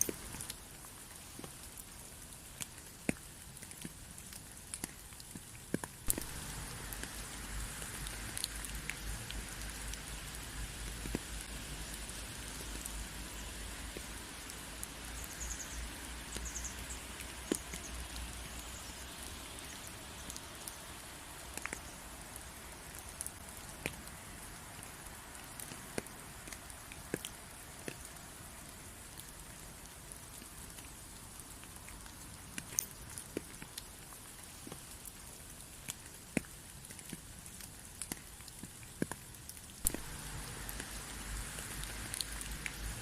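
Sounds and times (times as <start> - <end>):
rain falling: 0.0 - 43.0
raindrops ticking: 0.0 - 43.0.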